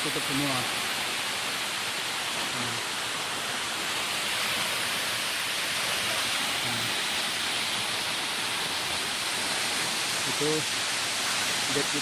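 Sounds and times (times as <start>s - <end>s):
water falling down waterfall: 0.0s - 12.0s.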